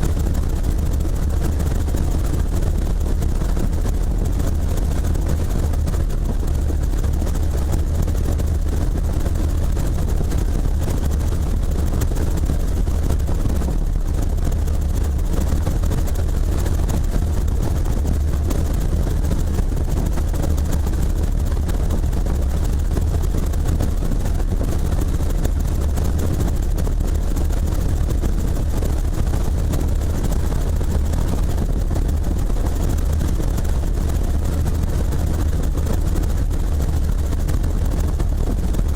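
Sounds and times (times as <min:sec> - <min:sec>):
helicopter rotor drone: 0:00.0 - 0:38.9.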